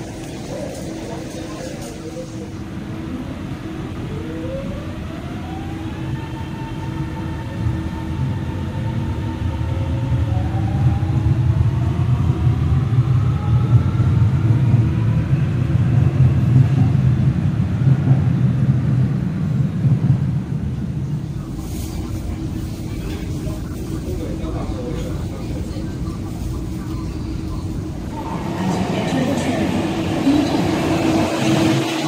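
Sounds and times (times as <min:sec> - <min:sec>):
rumble of train wheels and motors: 0:00.0 - 0:32.0.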